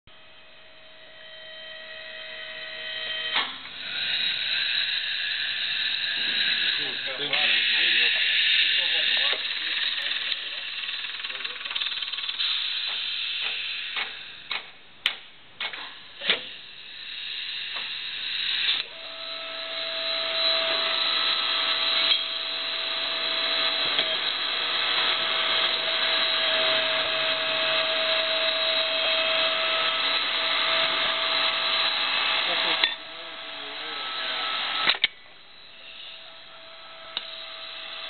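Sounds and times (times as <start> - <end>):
faint constant whine: 0.1 - 13.0, 13.8 - 38.0
steady machine hiss: 0.1 - 38.0.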